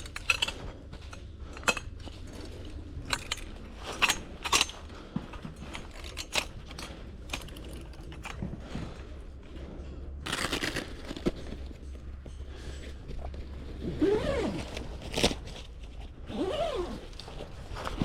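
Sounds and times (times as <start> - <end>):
gear crinkling and rustling: 0.0 - 18.0.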